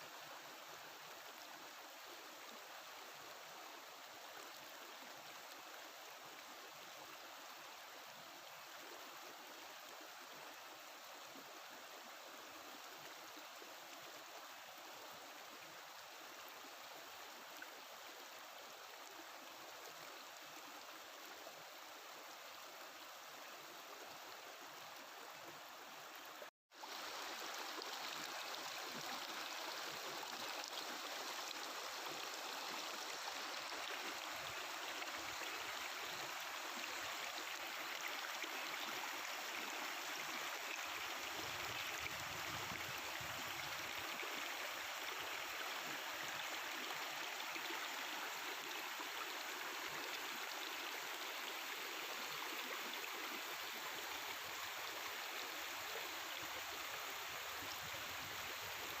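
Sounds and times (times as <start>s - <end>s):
river water babbling over rocks: 0.0s - 59.0s.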